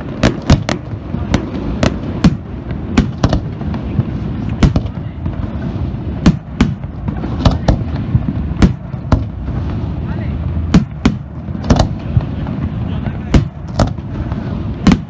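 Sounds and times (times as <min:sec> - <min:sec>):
fireworks bangs: 0:00.0 - 0:15.0
low rumble of shells bursting: 0:00.0 - 0:15.0.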